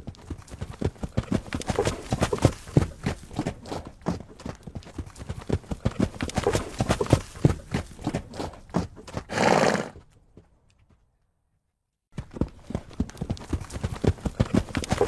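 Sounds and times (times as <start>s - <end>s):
horse hoofbeats: 0.0s - 11.2s, 12.1s - 15.0s.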